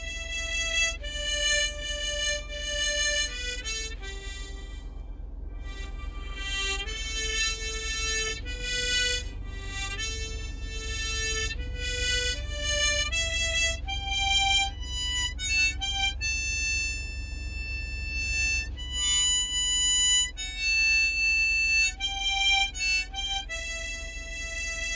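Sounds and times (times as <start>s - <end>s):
low steady hum: 0.0s - 24.9s
slow wind instrument melody: 0.0s - 24.9s.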